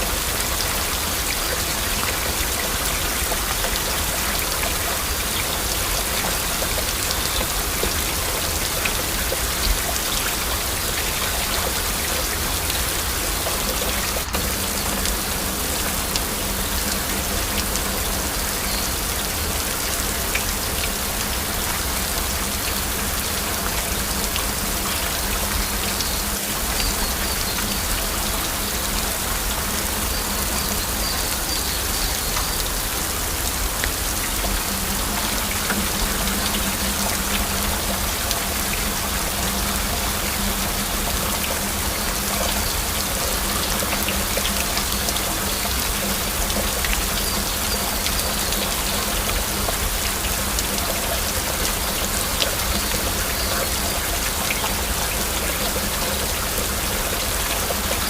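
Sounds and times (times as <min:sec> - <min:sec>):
heavy rain: 0:00.0 - 0:58.0
sharp water drips: 0:00.0 - 0:58.0.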